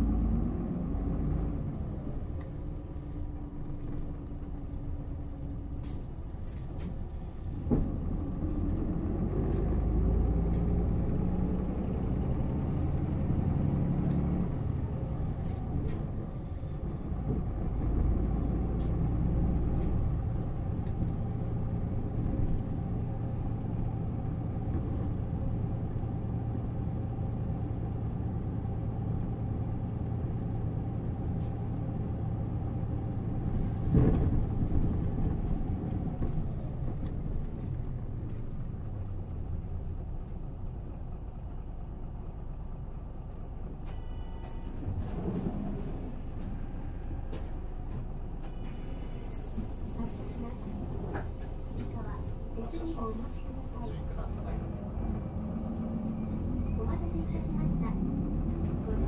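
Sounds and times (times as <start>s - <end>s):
bus engine accelerating: 0.0s - 59.0s.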